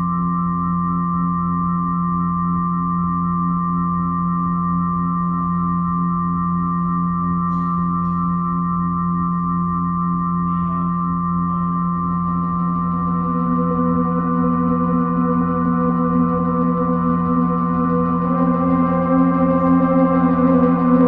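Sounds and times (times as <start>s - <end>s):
ambient drone music: 0.0s - 21.0s.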